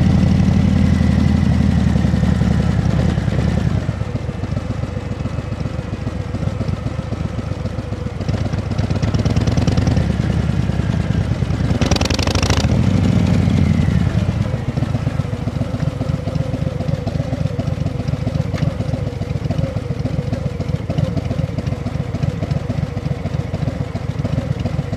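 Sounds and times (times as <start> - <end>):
engine running with pulsing beat: 0.0 - 24.9.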